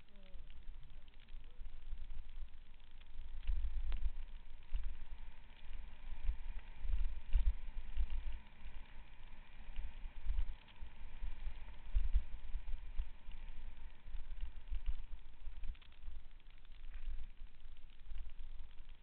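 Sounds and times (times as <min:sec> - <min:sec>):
wind and ground rumble: 0:00.0 - 0:19.0.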